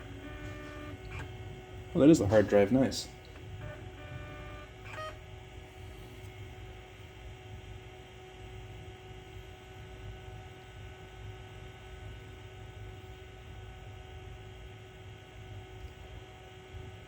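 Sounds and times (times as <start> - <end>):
computer electrical hum: 0.0 - 17.0.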